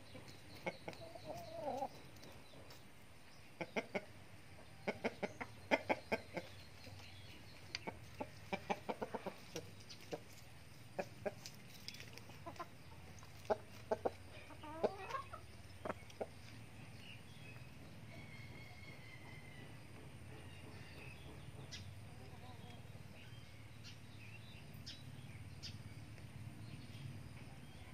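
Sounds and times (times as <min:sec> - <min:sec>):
chickens clucking: 0:00.0 - 0:24.1.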